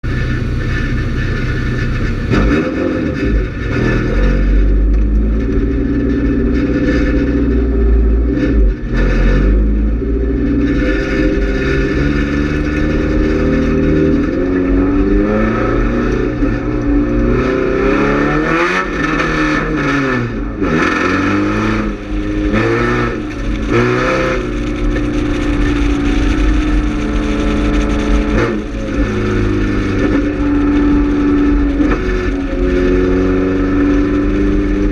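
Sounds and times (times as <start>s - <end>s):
heavy low rumble: 0.0s - 34.9s
race car engine revving: 0.0s - 34.9s.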